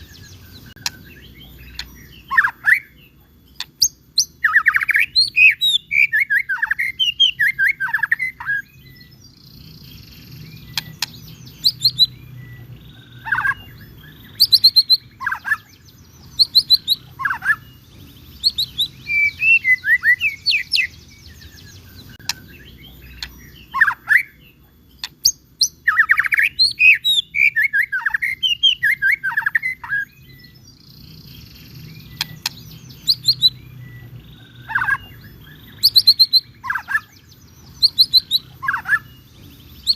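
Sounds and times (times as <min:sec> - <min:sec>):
songbird whistles and trills: 0:00.0 - 0:39.9.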